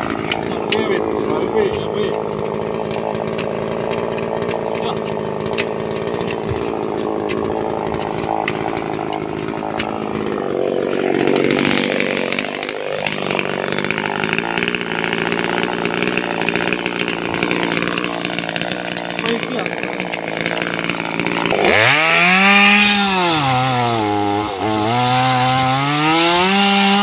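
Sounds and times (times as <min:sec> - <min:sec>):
chainsaw cutting roots: 0:00.0 - 0:27.0.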